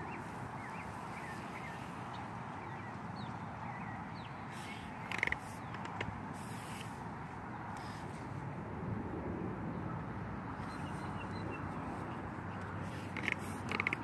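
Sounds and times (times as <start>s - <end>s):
birds chirping: 0.0s - 8.0s, 10.5s - 14.0s.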